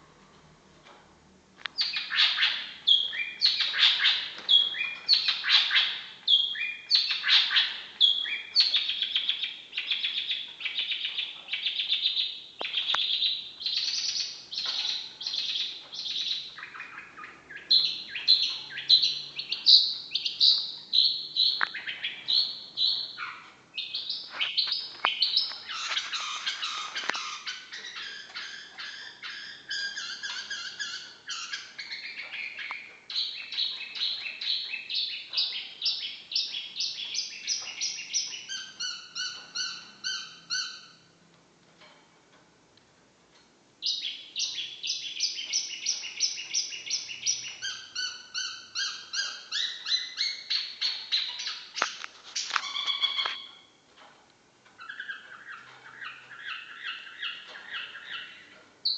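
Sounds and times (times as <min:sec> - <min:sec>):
bird singing rapid chirps: 0:01.8 - 0:41.1, 0:43.8 - 0:53.8, 0:54.8 - 0:58.9.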